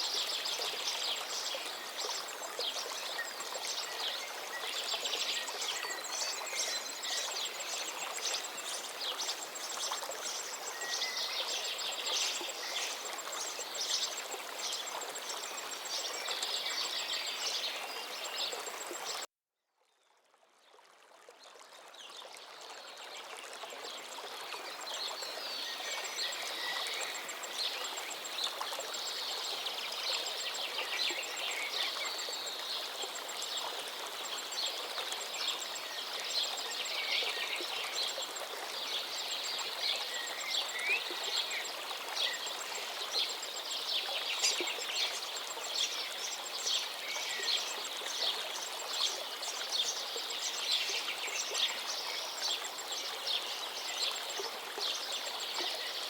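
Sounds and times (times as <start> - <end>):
river flowing: 0.0 - 19.3, 20.3 - 56.0.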